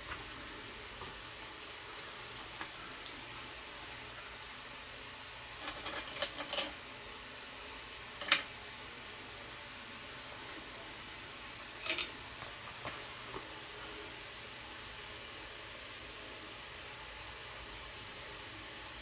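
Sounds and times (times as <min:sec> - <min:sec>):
fan hum: 0:00.0 - 0:19.0.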